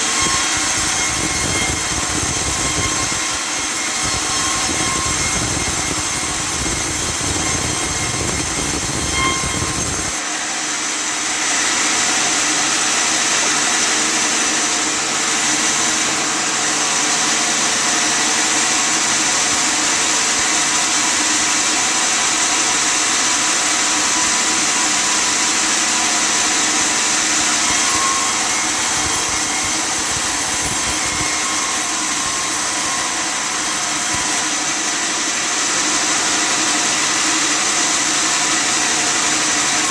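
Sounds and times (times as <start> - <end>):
table sawmill running: 0.0 - 39.9.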